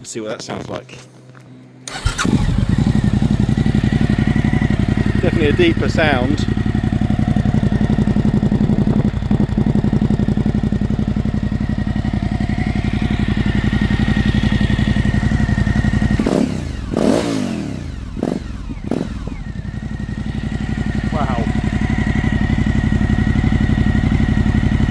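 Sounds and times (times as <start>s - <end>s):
motorcycle engine idling: 1.9s - 24.9s
motorcycle throttle blips: 1.9s - 24.9s.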